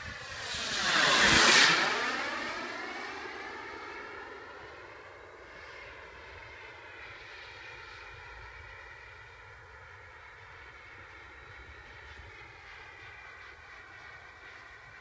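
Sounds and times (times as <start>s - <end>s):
jet turbine whining fly-by: 0.0s - 15.0s.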